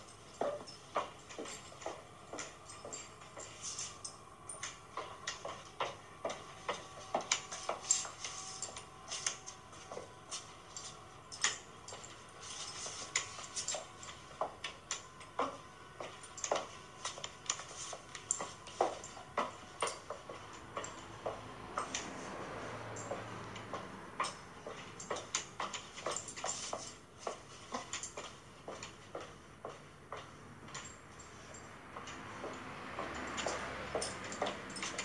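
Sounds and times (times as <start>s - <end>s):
high heels clicking on hard floor: 0.0s - 35.0s.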